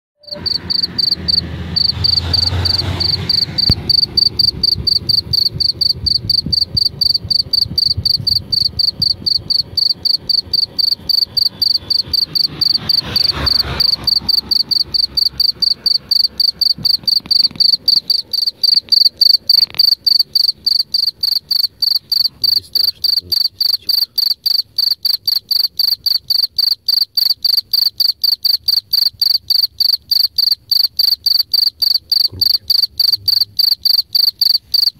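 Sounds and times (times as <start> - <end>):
field cricket chirping: 0.2 - 34.9.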